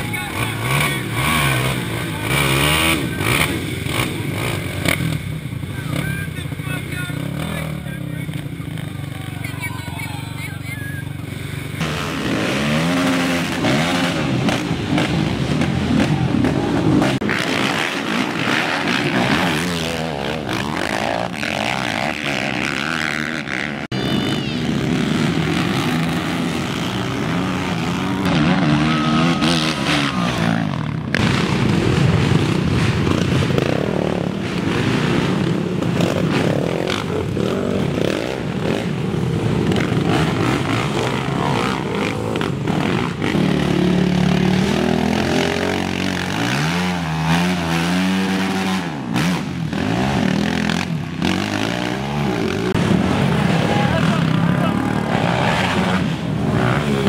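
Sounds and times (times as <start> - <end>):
quad engines revving: 0.0 - 57.0.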